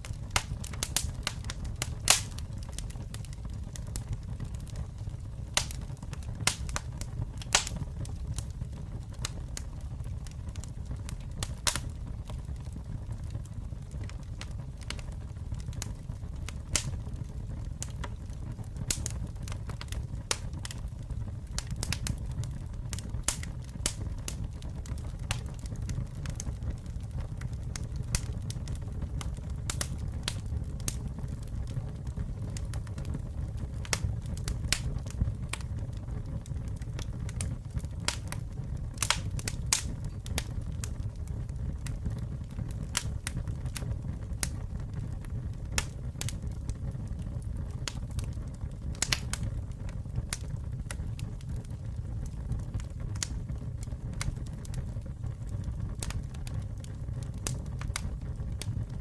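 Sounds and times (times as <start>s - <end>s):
burning wood crackling and popping: 0.0s - 59.0s
low rumble of flames: 0.0s - 59.0s.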